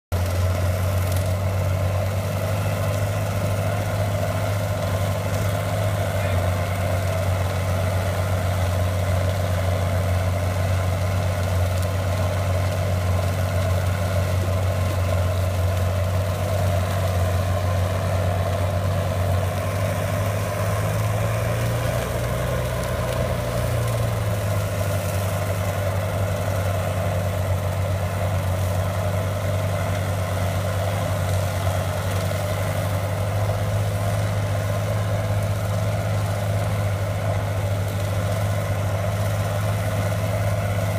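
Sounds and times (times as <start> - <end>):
vehicle engine running: 0.1 - 40.9
brush and grass being cut: 0.2 - 40.9.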